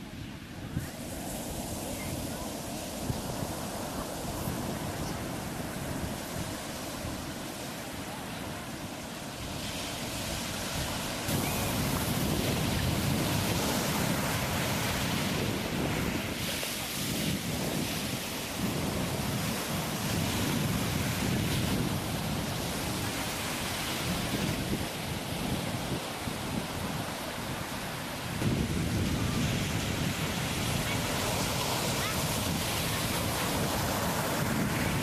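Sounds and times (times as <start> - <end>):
ocean waves washing: 0.0 - 35.0.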